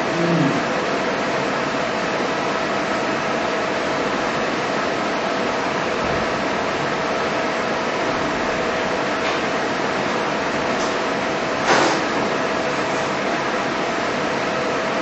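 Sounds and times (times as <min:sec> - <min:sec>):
steady mechanical hum and hiss: 0:00.0 - 0:15.0.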